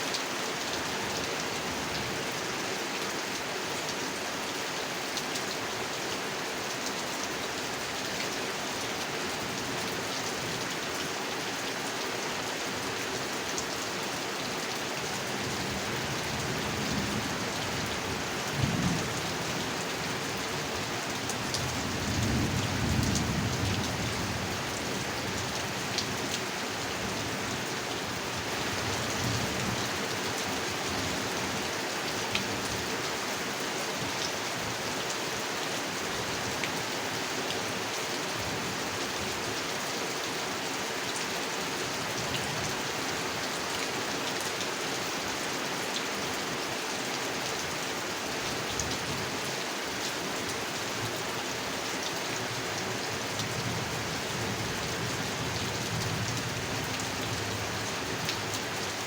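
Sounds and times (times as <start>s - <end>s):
rain falling on a pond: 0.0s - 59.0s.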